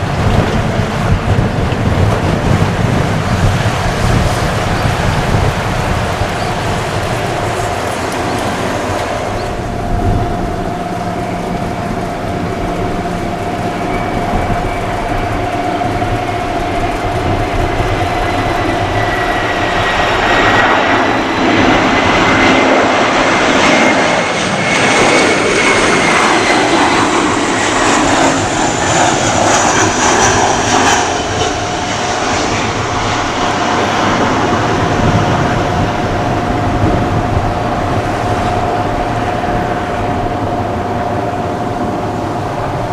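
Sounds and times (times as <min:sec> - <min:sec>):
jet airliner passing low: 0:00.0 - 0:42.9.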